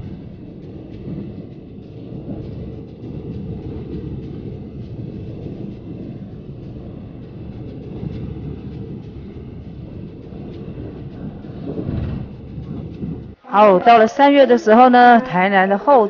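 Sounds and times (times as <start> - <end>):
train wheels rumbling on track: 0.0 - 15.9.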